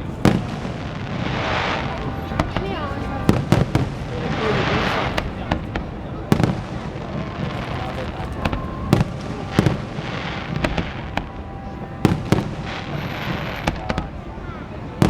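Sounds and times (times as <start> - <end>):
fireworks bangs: 0.0 - 15.0
small firework cracks: 0.2 - 14.1.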